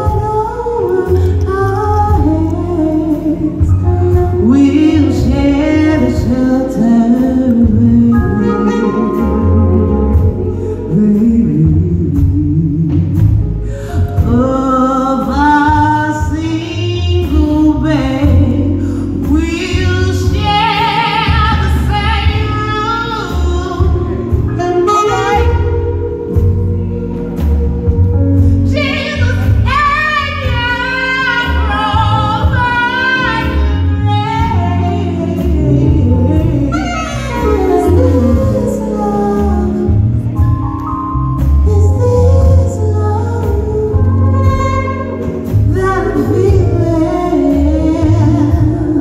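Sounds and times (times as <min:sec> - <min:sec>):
woman singing into a microphone: 0:00.0 - 0:40.6, 0:41.6 - 0:49.0
band accompaniment with bass line: 0:00.0 - 0:49.0.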